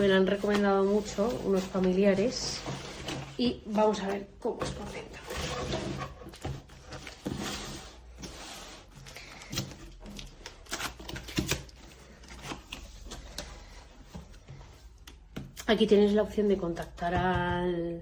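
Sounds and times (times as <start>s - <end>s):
cardboard packaging rustling: 0.0s - 15.2s.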